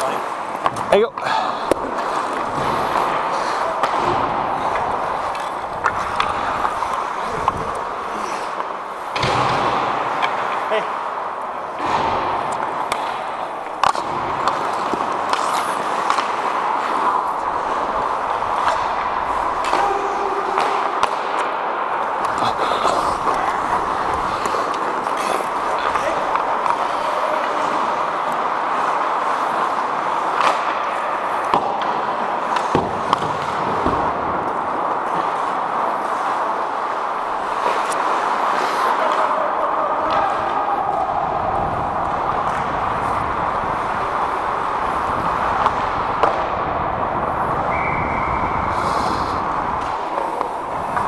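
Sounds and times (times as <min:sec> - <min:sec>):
clicks of sticks and puck: 0:00.0 - 0:51.0
skates scraping on ice: 0:00.0 - 0:51.0.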